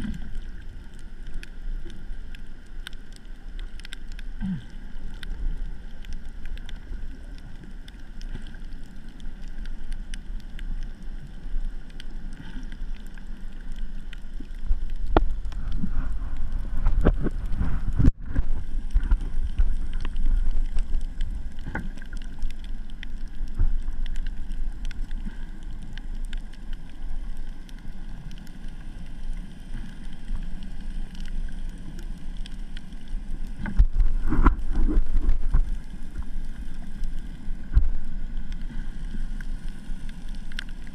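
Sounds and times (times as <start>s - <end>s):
underwater water rumble: 0.0s - 40.9s.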